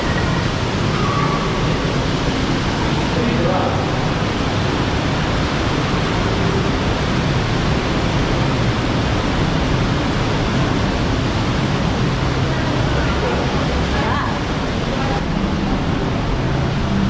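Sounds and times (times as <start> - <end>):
cascading water rushing: 0.0 - 17.0.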